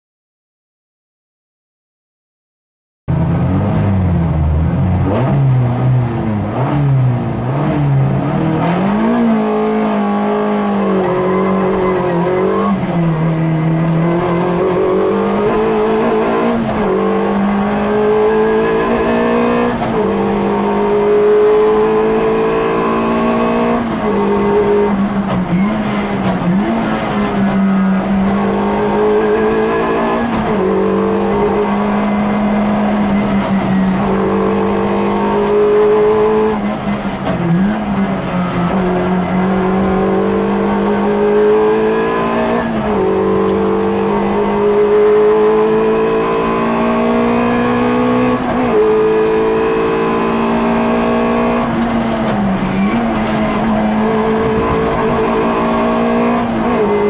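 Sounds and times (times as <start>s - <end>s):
car engine accelerating: 3.1s - 57.0s.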